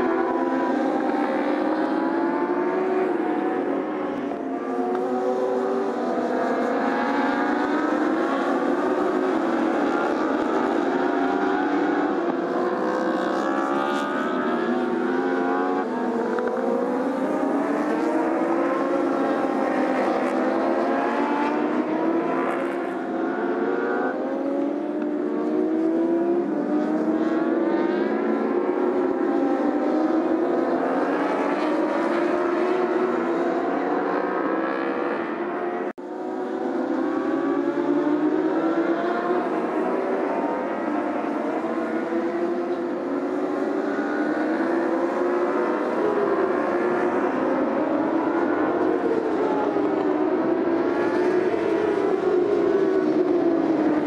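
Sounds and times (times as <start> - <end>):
racing motorcycles accelerating: 0.0 - 54.0.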